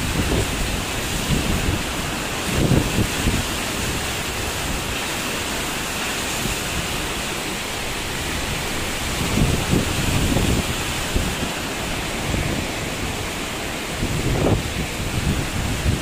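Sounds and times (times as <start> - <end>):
heavy rain: 0.0 - 16.0
strong wind: 0.0 - 16.0.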